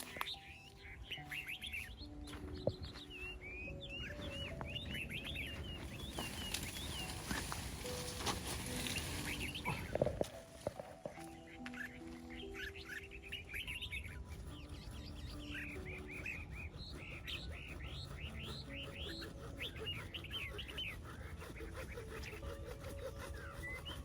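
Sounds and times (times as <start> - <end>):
small songbirds chirping: 0.0 - 24.0.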